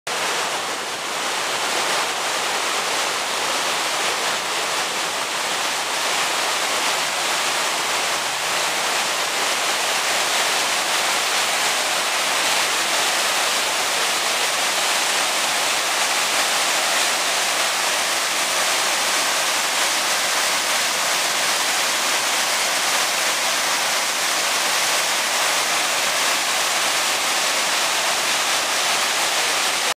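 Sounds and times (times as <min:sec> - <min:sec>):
water rushing over rocks: 0:00.1 - 0:29.9.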